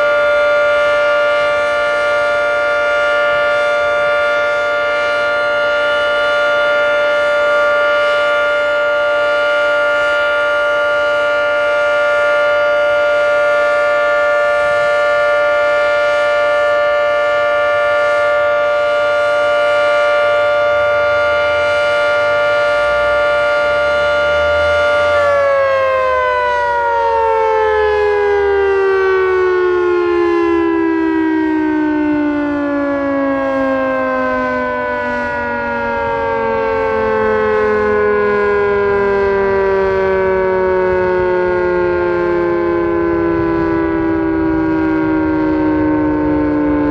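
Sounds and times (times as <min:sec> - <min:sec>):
outdoor warning siren chord: 0:00.0 - 0:46.9
siren rotors winding down: 0:00.0 - 0:46.9.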